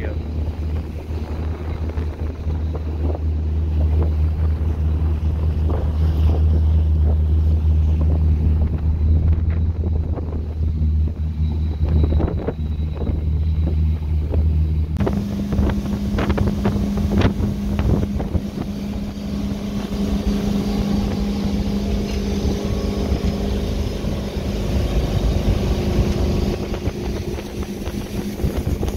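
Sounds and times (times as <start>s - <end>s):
boat engine humming: 0.0s - 28.9s
water rushing: 0.0s - 28.9s
wind on microphone: 0.0s - 28.9s.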